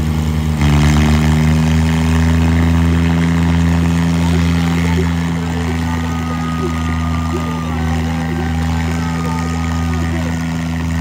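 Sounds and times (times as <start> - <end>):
tractor diesel engines droning: 0.0 - 11.0.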